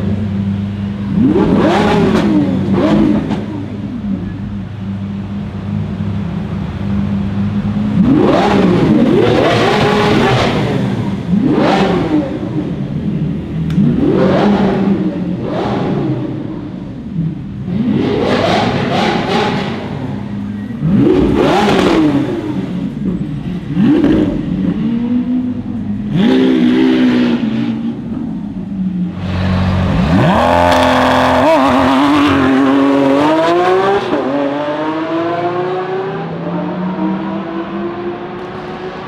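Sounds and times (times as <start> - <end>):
sports car engine revving: 0.0 - 39.0
car accelerating hard: 1.0 - 4.4, 7.9 - 12.8, 13.7 - 28.2, 29.1 - 39.0.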